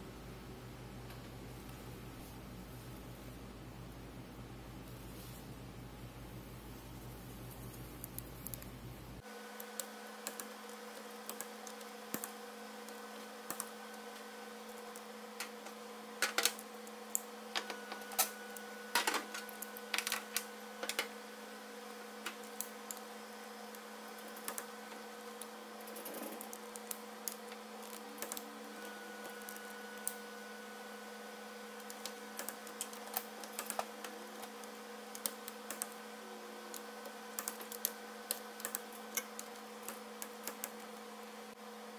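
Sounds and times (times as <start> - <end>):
steady hum: 0.0 - 41.9.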